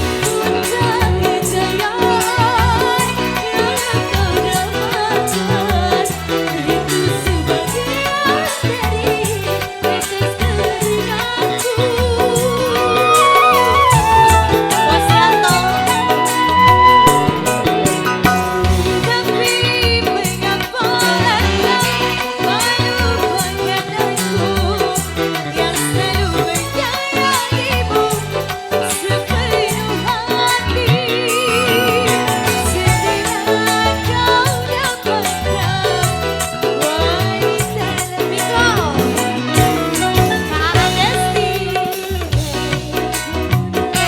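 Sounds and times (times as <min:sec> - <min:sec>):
vibrato vocal melody: 0:00.0 - 0:28.1, 0:29.1 - 0:42.9
steady drum beat: 0:00.0 - 0:44.0.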